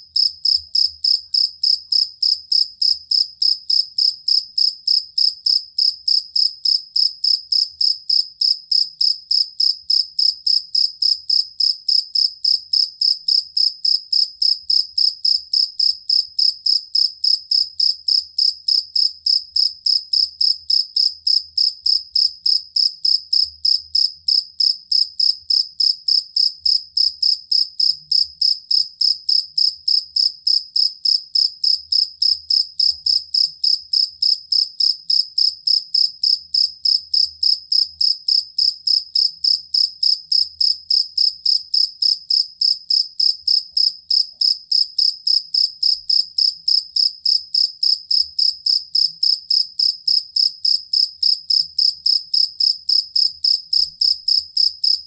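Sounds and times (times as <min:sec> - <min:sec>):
cricket chirping: 0:00.2 - 0:55.0.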